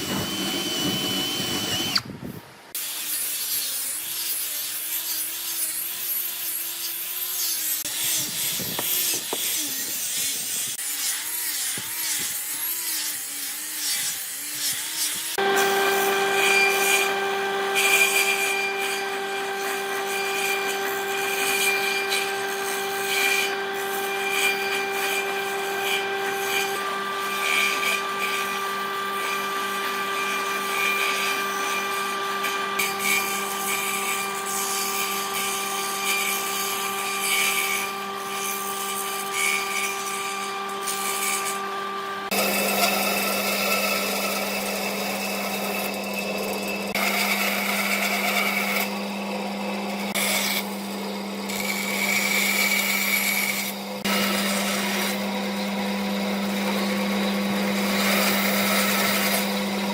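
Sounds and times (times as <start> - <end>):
power tool motor whine: 0.0 - 2.2, 7.4 - 59.9
wood cutting and rubbing: 0.0 - 59.9.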